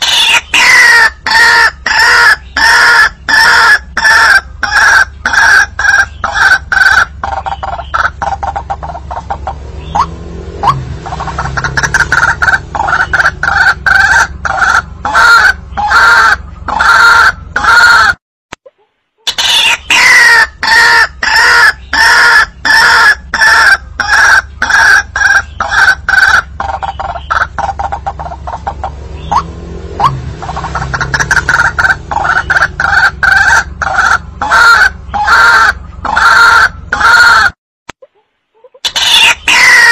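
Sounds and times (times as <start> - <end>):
waterhen croaking calls: 0.0 - 18.2, 19.3 - 37.6, 38.6 - 39.9.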